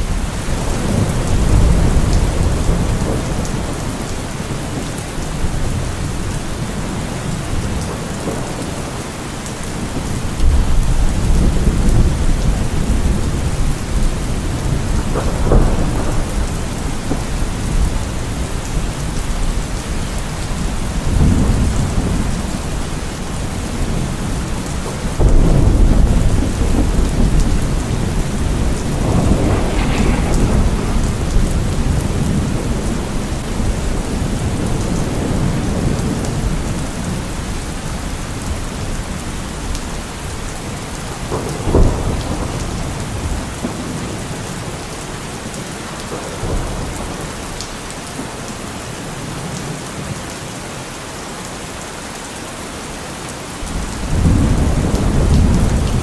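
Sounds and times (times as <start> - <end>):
rolling thunder: 0.0 - 47.6, 53.6 - 56.0
heavy rain: 0.0 - 56.0.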